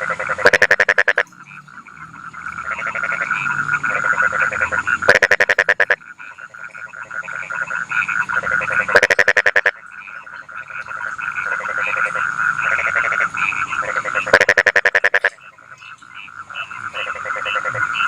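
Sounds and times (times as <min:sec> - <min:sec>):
close frog rapid pulses: 0:00.0 - 0:18.0
frog chorus croaking: 0:00.0 - 0:18.0.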